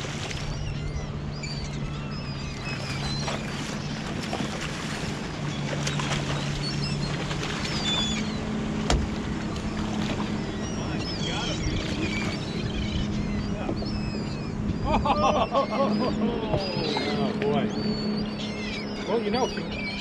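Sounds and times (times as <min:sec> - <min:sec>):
boat engine idling: 0:00.0 - 0:20.0
seabirds chirping: 0:00.0 - 0:20.0.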